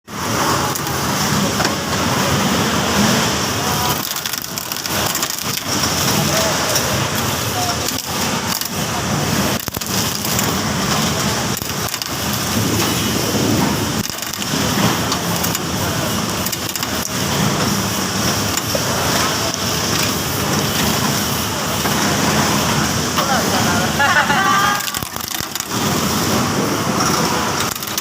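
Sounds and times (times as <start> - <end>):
machine running: 0.1 - 28.0.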